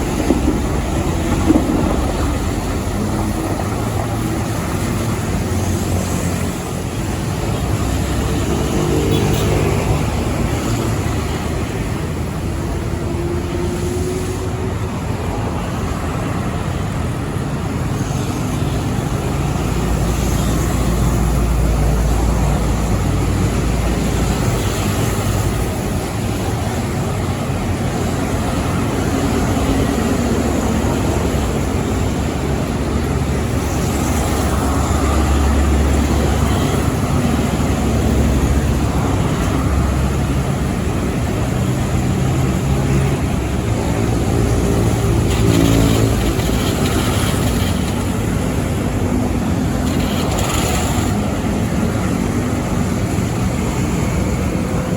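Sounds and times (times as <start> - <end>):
heavy trucks passing: 0.0 - 54.9.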